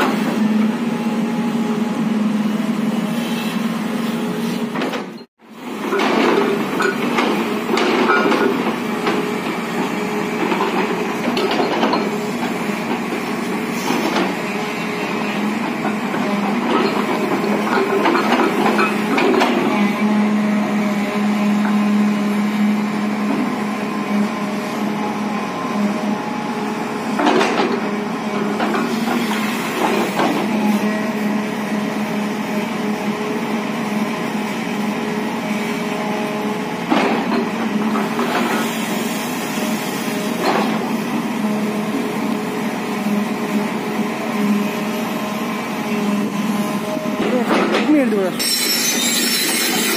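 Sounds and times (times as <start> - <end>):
excavator engine humming: 0.0 - 49.9.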